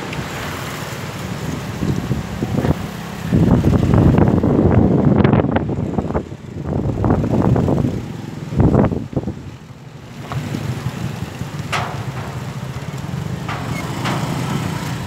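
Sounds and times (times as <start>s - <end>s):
storm wind buffeting microphone: 1.0s - 15.0s.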